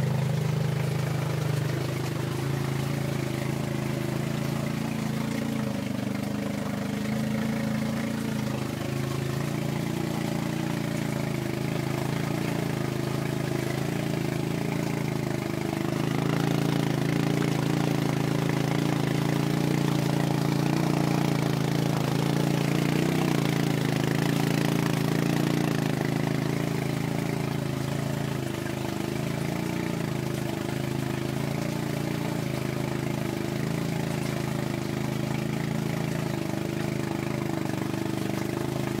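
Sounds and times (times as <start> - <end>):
atv engine running under load: 0.0 - 39.0.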